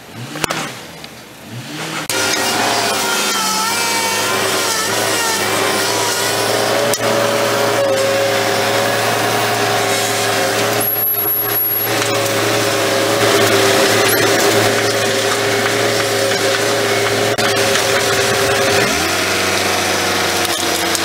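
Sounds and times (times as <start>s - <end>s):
loader engine running: 0.0s - 21.0s.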